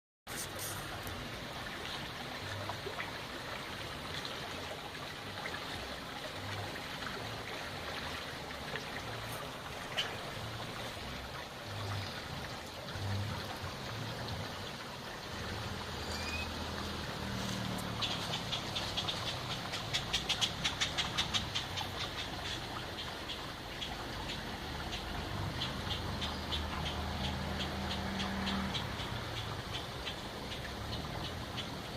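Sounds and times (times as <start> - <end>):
river water rushing: 0.3 - 31.9.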